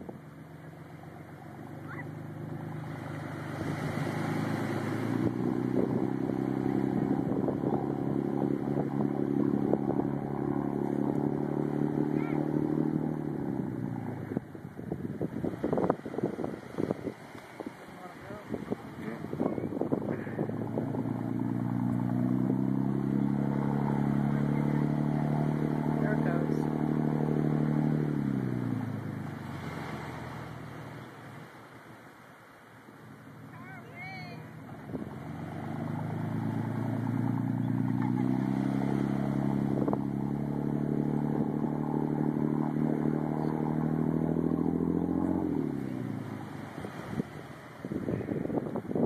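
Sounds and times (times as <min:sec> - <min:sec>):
motorboat engine running: 0:00.0 - 0:32.1, 0:32.8 - 0:49.0.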